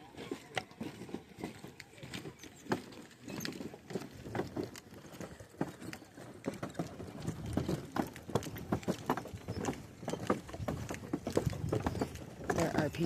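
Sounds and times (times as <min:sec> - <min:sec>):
footsteps on a walkway: 0:00.0 - 0:13.0.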